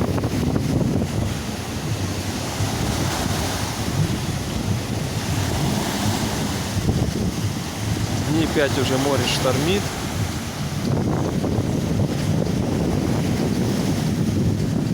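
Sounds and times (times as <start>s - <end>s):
surf breaking on beach: 0.0s - 14.9s
wind buffeting microphone: 0.0s - 14.9s.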